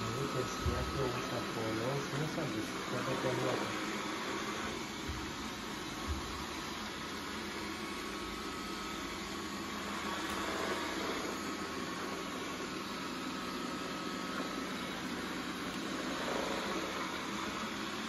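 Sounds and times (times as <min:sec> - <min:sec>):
robot vacuum whirring: 0:00.0 - 0:18.0.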